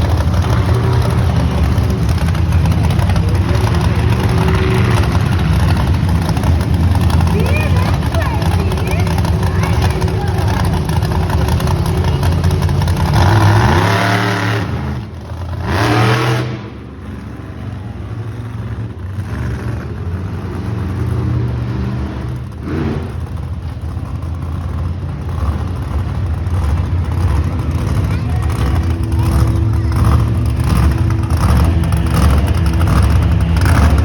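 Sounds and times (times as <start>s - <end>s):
monster truck engine revving: 0.0s - 34.0s
steady engine drone: 0.0s - 34.0s.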